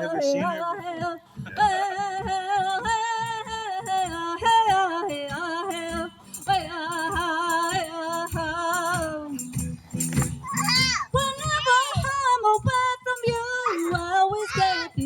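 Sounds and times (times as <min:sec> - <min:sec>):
woman singing with vibrato: 0:00.0 - 0:09.8, 0:10.4 - 0:15.0.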